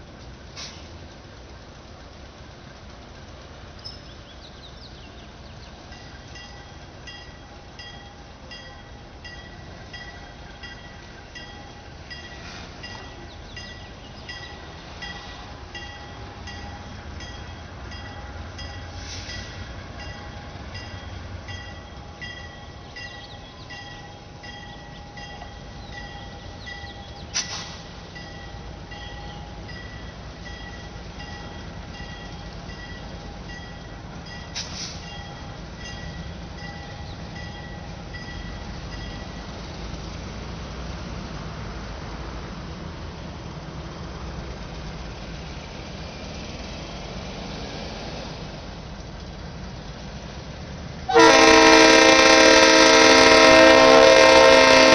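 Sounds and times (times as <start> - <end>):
diesel locomotive engine rumble: 0.0 - 54.9.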